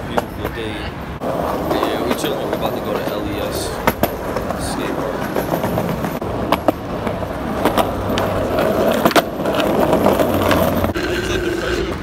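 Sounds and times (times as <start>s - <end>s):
skateboard wheels clacking over joints: 0.0s - 12.0s
skateboard wheels rumbling on concrete: 0.0s - 12.0s.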